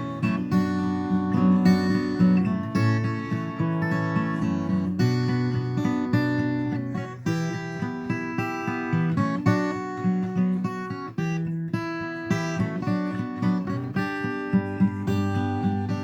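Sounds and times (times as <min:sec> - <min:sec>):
guitar plucked and strummed: 0:00.0 - 0:16.0.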